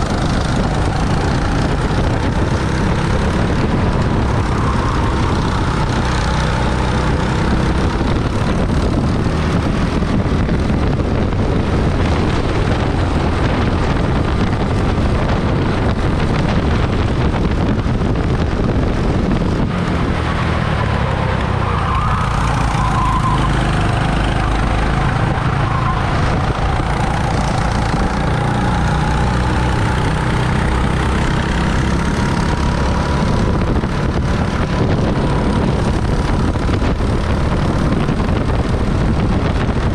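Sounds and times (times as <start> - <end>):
kart motor running: 0.0 - 39.9.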